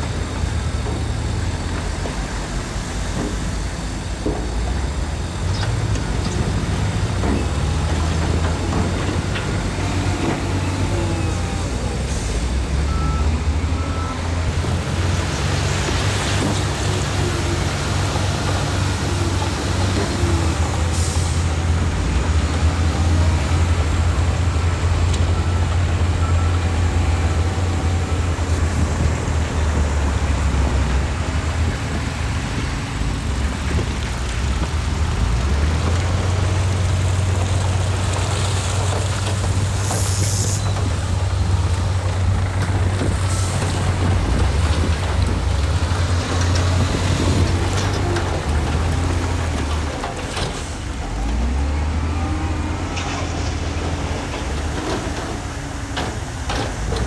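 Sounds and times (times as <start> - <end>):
diesel machinery rumbling: 0.0 - 57.0.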